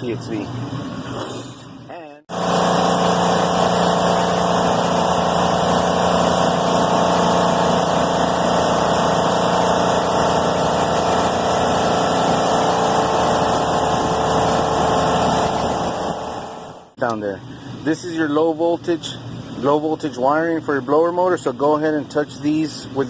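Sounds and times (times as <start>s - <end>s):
hvac unit humming: 0.0s - 23.0s.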